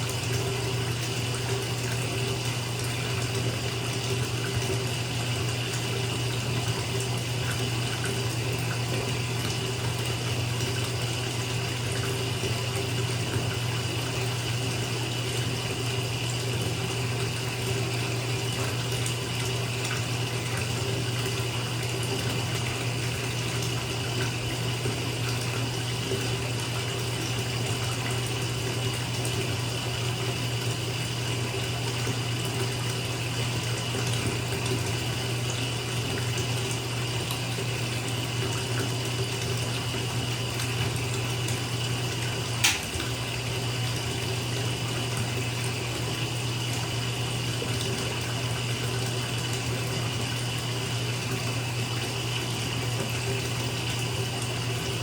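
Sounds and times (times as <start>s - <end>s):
water running into bathtub: 0.0s - 55.0s.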